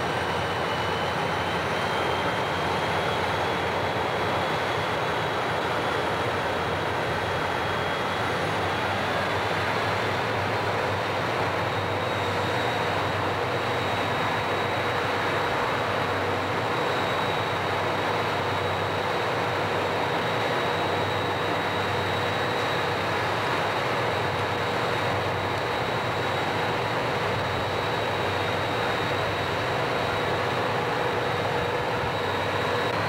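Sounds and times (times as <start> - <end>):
diesel locomotive engines running: 0.0 - 33.0.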